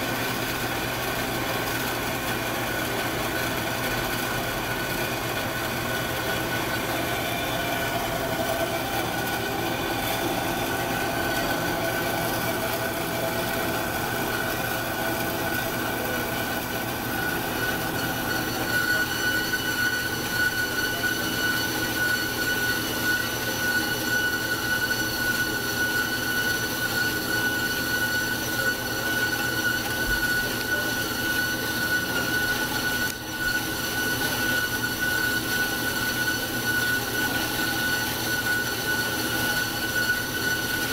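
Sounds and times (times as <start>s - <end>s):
band saw cutting steel: 0.0s - 40.9s.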